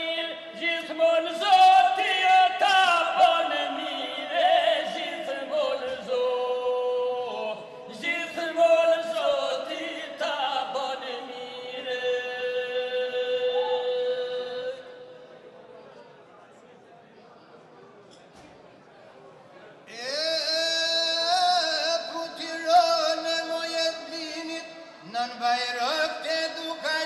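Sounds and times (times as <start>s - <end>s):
men singing unaccompanied: 0.0s - 14.9s, 20.1s - 27.0s.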